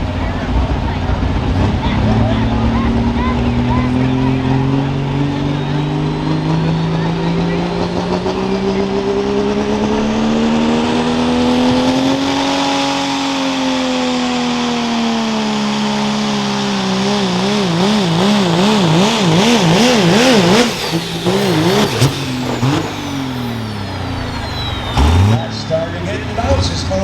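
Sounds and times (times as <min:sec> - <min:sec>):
diesel truck engine at full throttle: 0:00.0 - 0:27.0.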